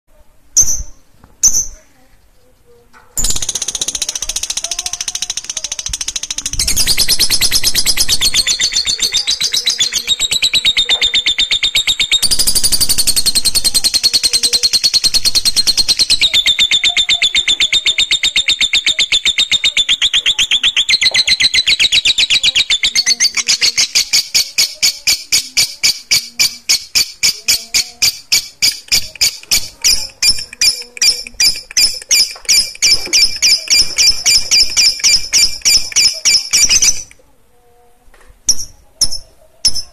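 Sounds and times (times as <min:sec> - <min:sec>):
lovebird chirps: 0:00.6 - 0:01.8, 0:03.2 - 0:37.2, 0:38.5 - 0:39.9
lovebird high-pitched trill: 0:03.2 - 0:37.1.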